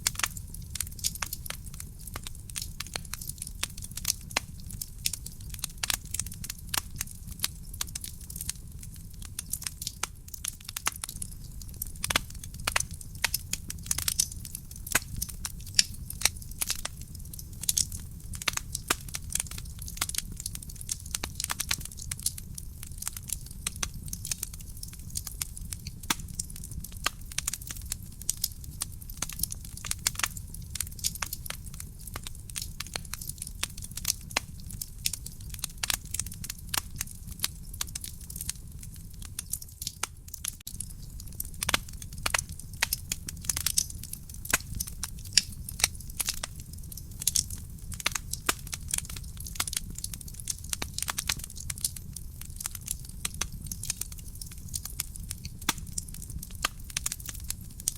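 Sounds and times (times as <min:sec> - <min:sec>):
burning logs crackling and popping: 0:00.0 - 0:57.9
low rumble of flames: 0:00.0 - 0:57.9.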